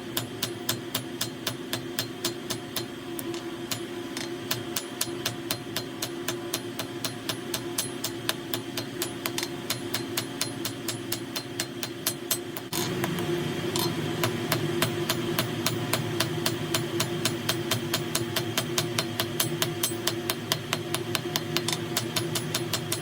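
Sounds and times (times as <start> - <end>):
steady hum: 0.0 - 23.0
hammer ringing on an anvil: 0.2 - 12.9, 14.8 - 20.3, 21.6 - 23.0.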